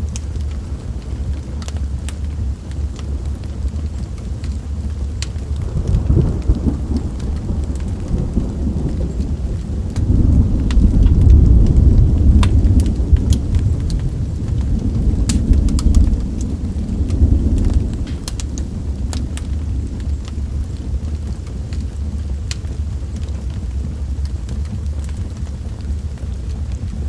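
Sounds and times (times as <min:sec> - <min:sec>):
steady rain: 0:00.0 - 0:27.0
wood fire crackling: 0:00.0 - 0:27.0
rolling thunder: 0:04.8 - 0:27.0.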